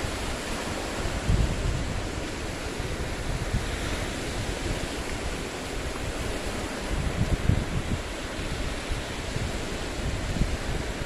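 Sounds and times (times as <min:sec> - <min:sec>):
waves washing on rocky shore: 0:00.0 - 0:11.0
wind buffeting microphone: 0:00.0 - 0:11.0.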